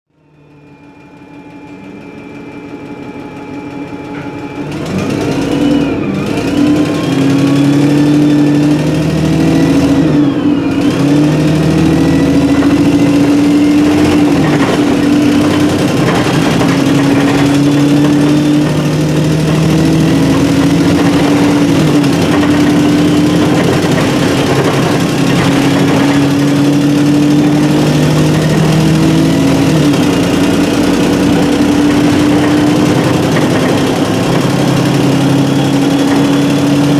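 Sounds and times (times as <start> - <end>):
gearbox whine: 0.2 - 36.9
bus engine accelerating: 3.2 - 36.9.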